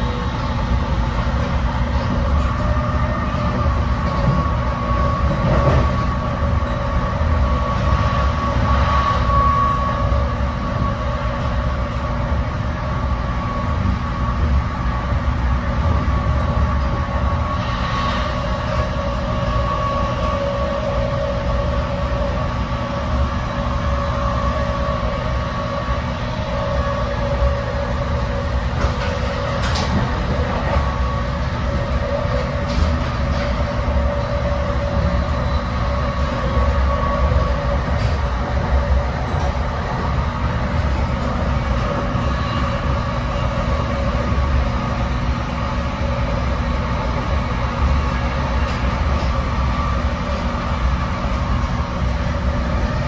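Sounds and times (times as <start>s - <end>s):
constant hum: 0.0s - 53.0s
train wheels rumbling on rails: 0.0s - 53.0s.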